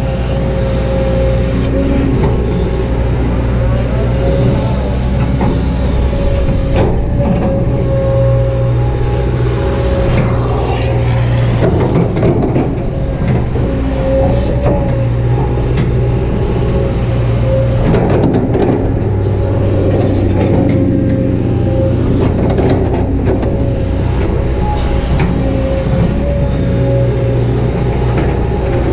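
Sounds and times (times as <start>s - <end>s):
excavator diesel engine running: 0.0s - 28.9s
steady whine: 0.0s - 28.9s.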